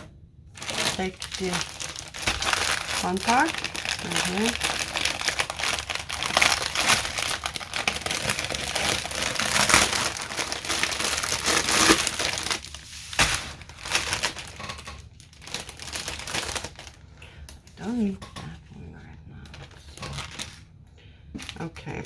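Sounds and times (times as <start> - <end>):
plastic bags crinkling: 0.5 - 17.8, 19.4 - 20.8, 21.4 - 22.0.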